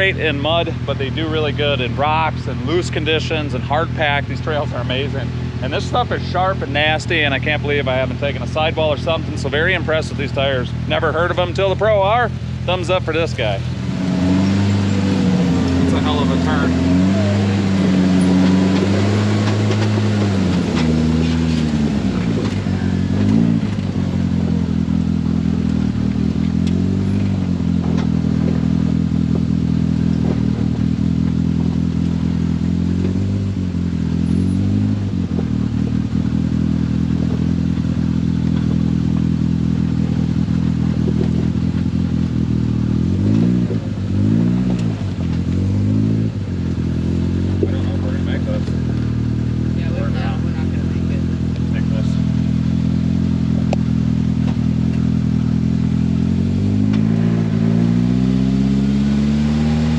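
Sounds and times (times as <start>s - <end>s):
off-road vehicle engine accelerating: 0.0s - 59.9s.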